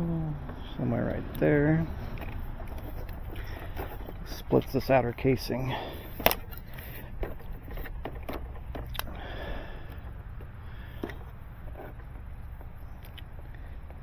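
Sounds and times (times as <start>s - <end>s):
blade scraping cable jacket: 1.8s - 14.0s.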